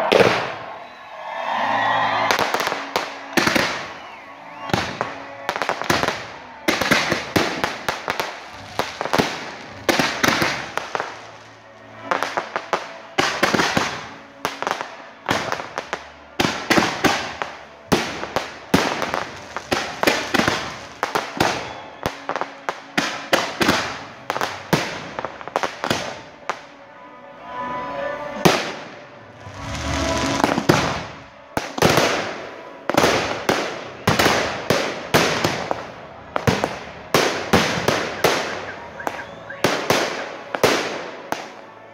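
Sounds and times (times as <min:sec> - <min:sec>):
fireworks bangs and crackling: 0:00.0 - 0:00.8, 0:02.2 - 0:26.7, 0:28.4 - 0:41.7.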